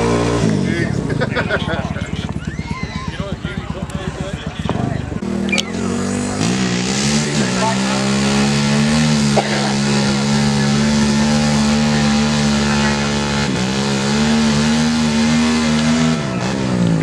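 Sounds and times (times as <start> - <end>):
quad engine at high revs: 0.0 - 17.0
wheels spinning in mud: 0.0 - 17.0.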